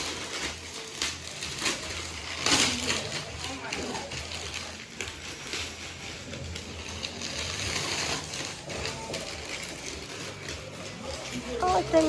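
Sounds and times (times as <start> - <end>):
wrapping paper rustling: 0.0 - 12.0.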